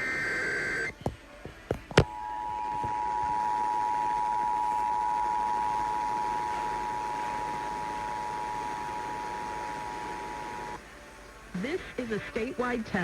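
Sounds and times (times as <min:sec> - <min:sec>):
faint radio hiss: 0:00.0 - 0:13.0.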